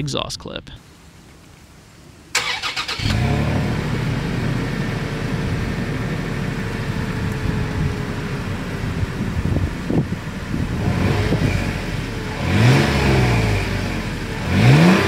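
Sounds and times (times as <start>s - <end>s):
car engine idling: 1.8s - 15.0s.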